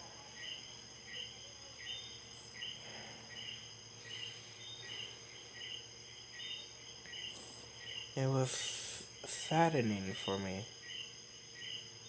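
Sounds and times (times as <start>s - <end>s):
faint high-pitched whine: 0.0s - 12.0s
insects chirping: 0.0s - 12.0s.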